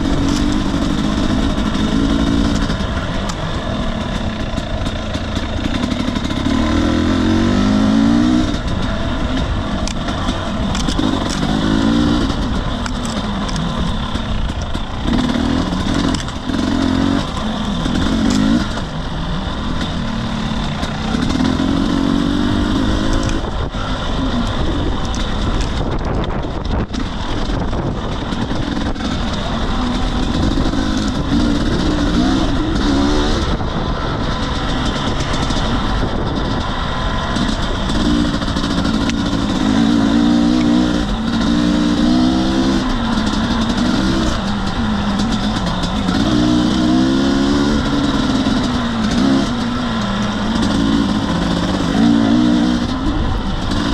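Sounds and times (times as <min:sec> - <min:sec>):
dirt bike engine revving: 0:00.0 - 0:53.9
trail knocks and rattles: 0:00.0 - 0:53.9
wind noise: 0:00.0 - 0:53.9.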